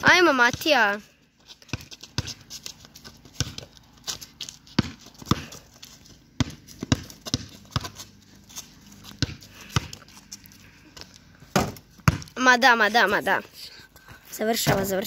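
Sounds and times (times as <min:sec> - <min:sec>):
basketball bouncing on pavement: 0:00.0 - 0:10.3, 0:11.0 - 0:12.7, 0:14.5 - 0:15.0.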